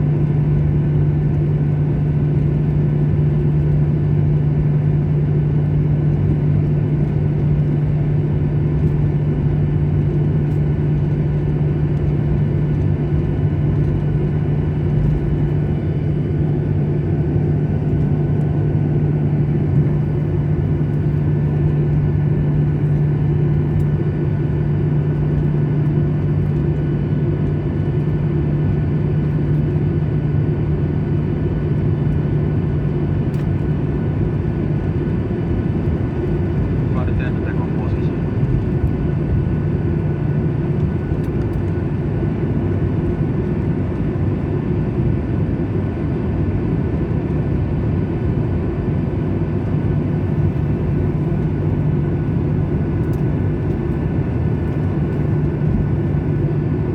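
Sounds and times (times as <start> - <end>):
jet cabin engine drone: 0.0 - 56.9.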